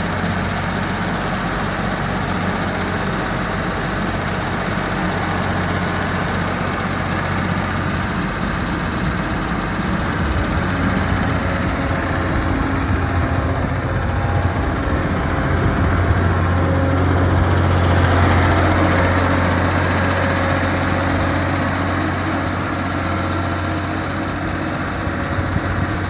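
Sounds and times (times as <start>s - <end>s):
loader engine running: 0.0s - 26.0s.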